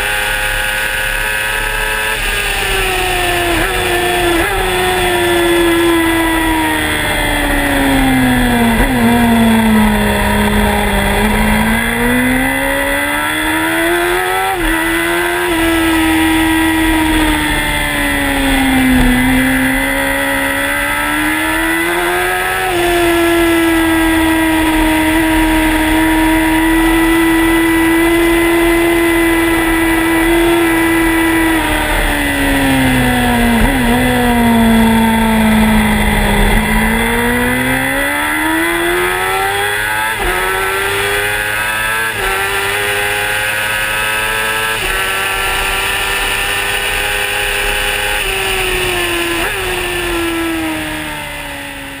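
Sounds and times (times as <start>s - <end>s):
motorcycle engine revving and shifting: 0.0s - 52.0s.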